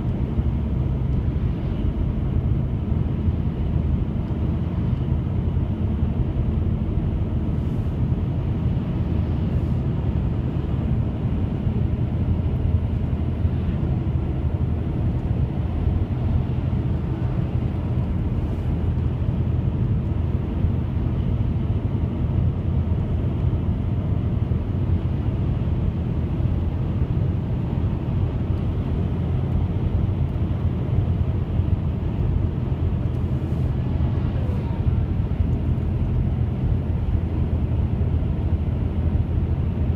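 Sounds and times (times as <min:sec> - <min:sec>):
low droning hum: 0:00.0 - 0:39.9.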